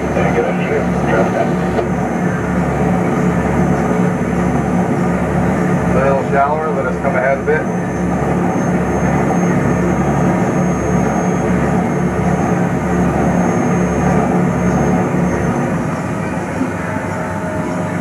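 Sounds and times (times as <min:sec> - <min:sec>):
barge engine droning: 0:00.0 - 0:18.0.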